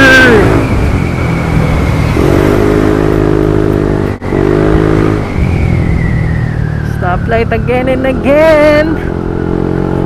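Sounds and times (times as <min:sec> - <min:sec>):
steady drone: 0:00.0 - 0:08.7.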